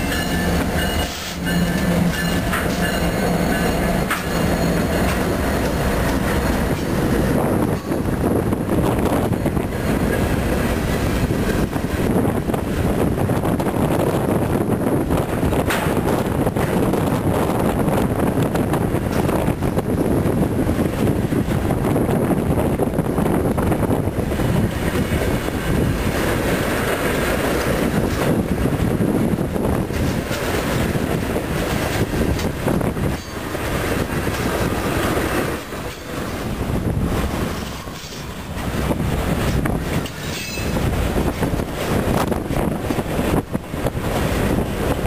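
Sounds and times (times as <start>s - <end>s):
freight train wheels rumbling on rail: 0.0s - 45.0s.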